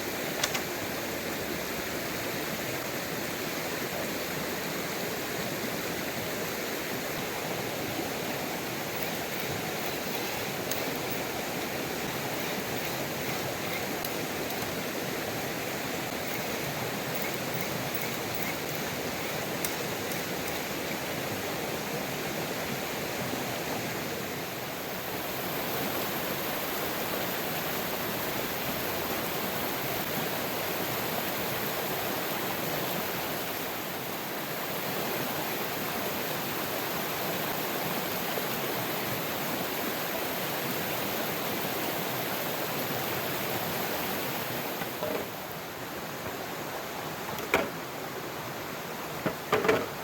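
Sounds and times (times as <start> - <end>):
water rushing: 0.0 - 50.0.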